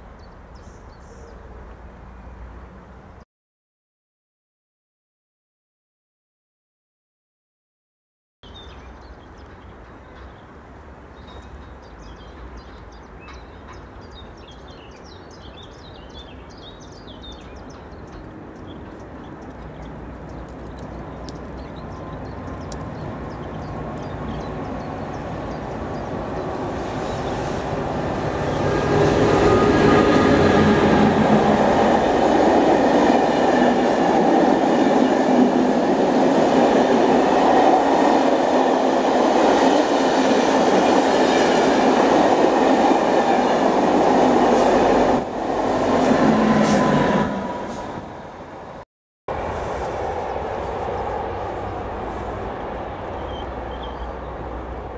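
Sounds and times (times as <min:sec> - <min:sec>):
train wheels on rails: 0:09.1 - 0:54.9.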